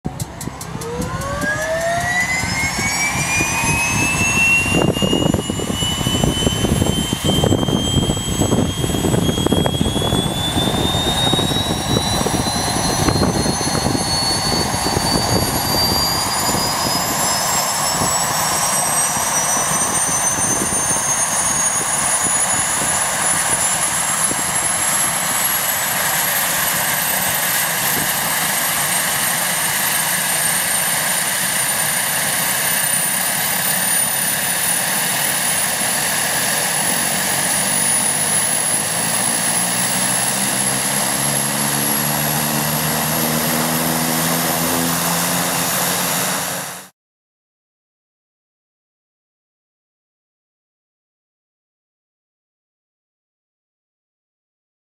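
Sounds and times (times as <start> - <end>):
high turbine whine: 0.1 - 46.9
propeller tones: 0.1 - 46.9
turboprop engine starting: 0.1 - 46.9.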